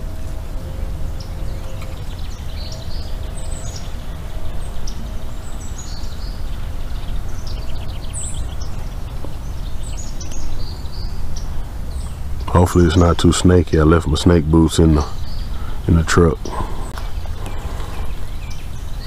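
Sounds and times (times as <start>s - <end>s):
low rumble: 0.0s - 19.0s
songbirds singing: 0.0s - 19.0s.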